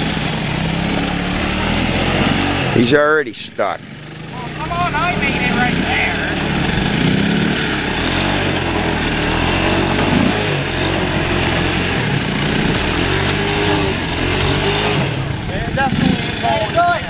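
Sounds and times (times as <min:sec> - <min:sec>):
engine revs: 0:00.0 - 0:17.0
small engines idling: 0:00.0 - 0:17.0.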